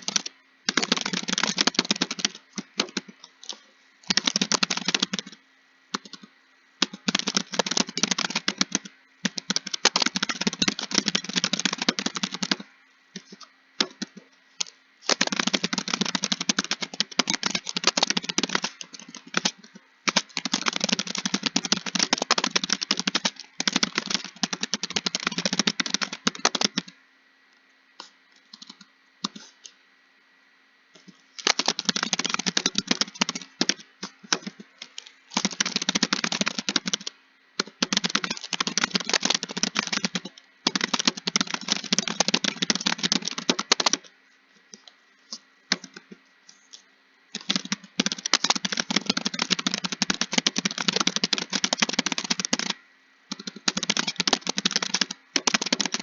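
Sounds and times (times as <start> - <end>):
fast typing on keyboard: 0.0 - 27.0, 31.4 - 44.1, 45.7 - 46.2, 47.3 - 56.0.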